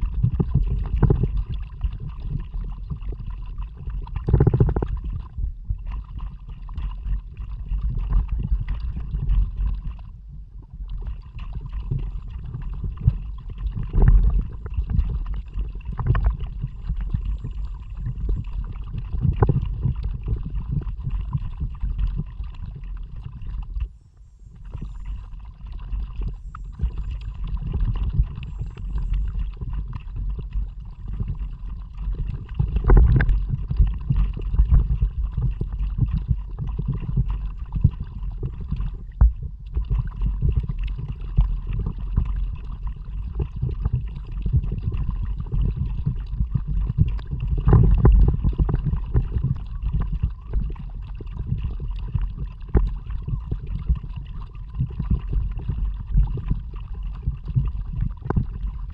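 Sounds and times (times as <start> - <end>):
water and wind rumble: 0.0 - 58.9.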